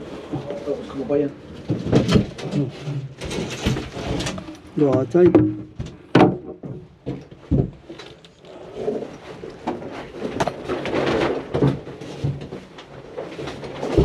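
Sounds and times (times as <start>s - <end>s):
knocks and clatter of hand work: 1.4s - 14.0s.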